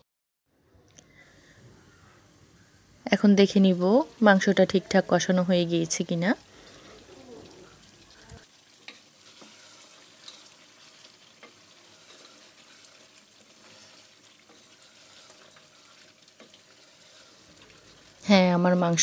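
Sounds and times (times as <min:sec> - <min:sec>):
curry sizzling in a pot: 0:01.3 - 0:19.0.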